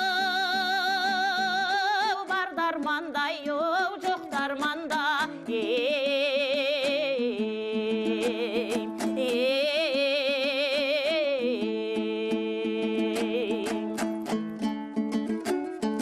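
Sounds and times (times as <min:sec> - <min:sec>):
plucked lute strumming: 0:00.0 - 0:16.0.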